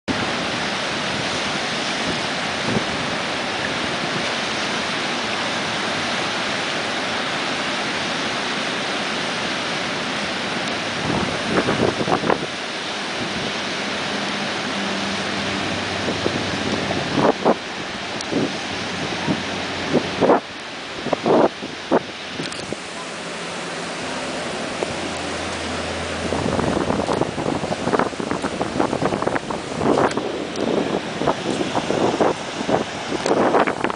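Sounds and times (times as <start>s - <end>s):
wind buffeting microphone: 0.1s - 7.4s, 9.5s - 33.9s
ocean surf breaking on shore: 0.1s - 33.9s.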